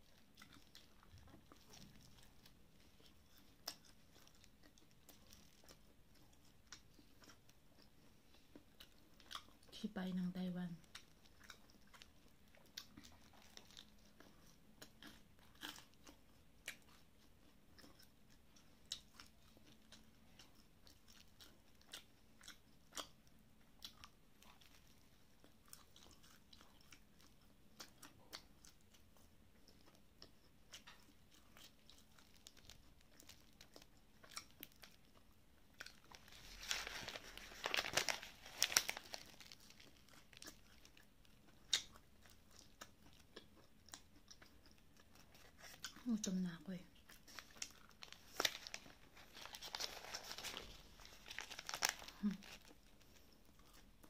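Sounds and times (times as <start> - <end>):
crunchy chewing: 0.0 - 9.8, 10.7 - 46.2, 46.8 - 54.0.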